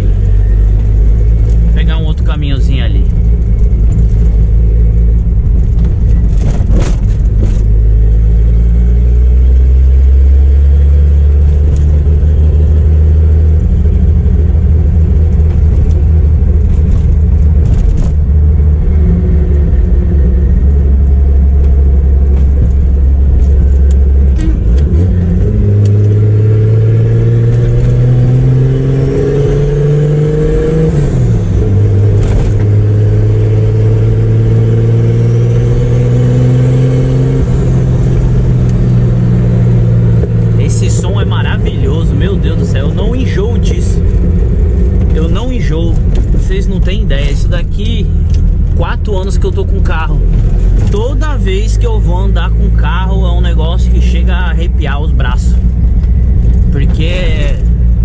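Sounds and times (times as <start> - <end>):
car engine driving: 0.0 - 58.0.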